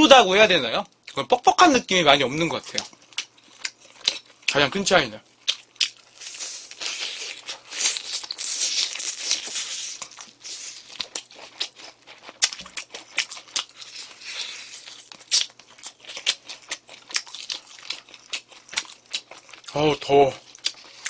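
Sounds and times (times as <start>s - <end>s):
chewing crispy fried chicken: 2.3s - 21.0s.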